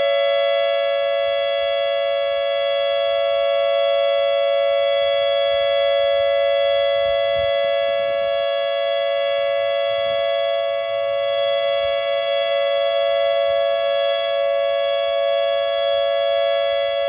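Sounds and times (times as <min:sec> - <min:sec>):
outdoor warning siren steady tone: 0:00.0 - 0:17.0.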